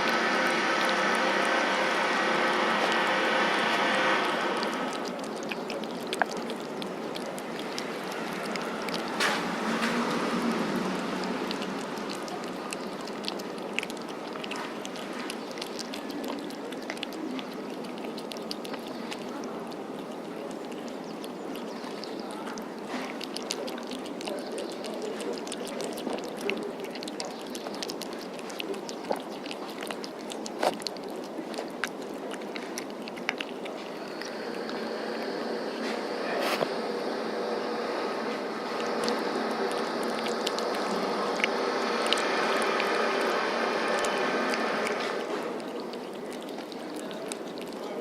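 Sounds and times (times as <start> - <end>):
background noise: 0.0 - 48.0
cat chewing food: 0.0 - 48.0.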